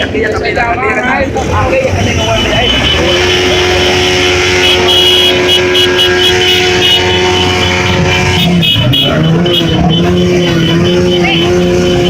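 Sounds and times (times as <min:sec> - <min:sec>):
motorcycle engine running: 0:01.5 - 0:12.0.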